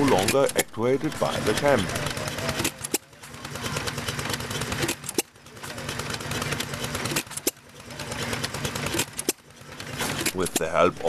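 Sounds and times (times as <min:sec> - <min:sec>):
sharp engine clicks: 0:00.0 - 0:11.0
stationary engine running: 0:00.0 - 0:11.0.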